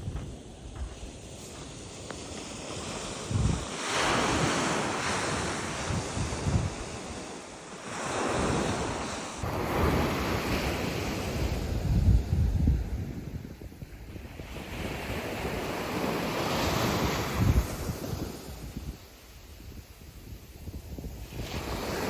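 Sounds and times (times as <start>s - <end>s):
sea waves breaking on shore: 0.0s - 22.0s
wind buffeting microphone: 0.0s - 22.0s.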